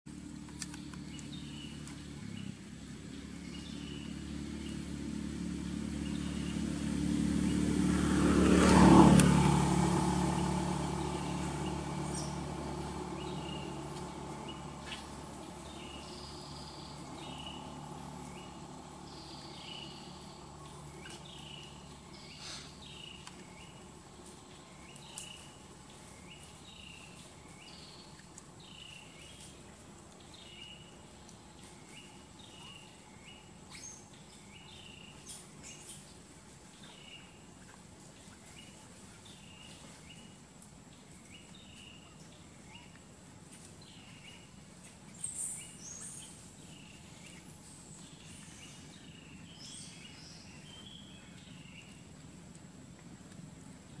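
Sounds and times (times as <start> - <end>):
motor vehicle passing by: 0.1 - 54.0.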